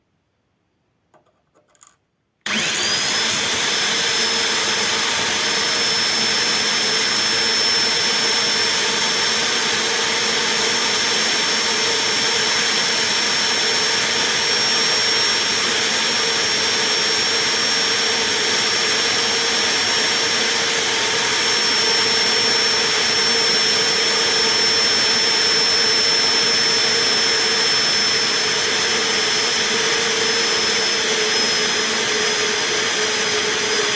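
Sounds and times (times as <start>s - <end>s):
power tool motor whining: 2.4s - 33.9s.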